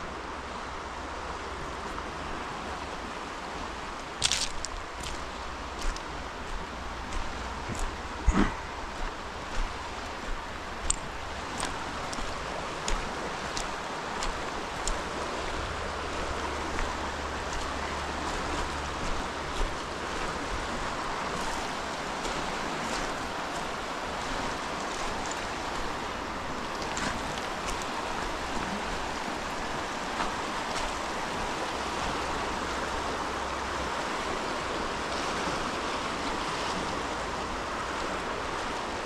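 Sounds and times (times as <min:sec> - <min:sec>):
flowing water: 0:00.0 - 0:39.0.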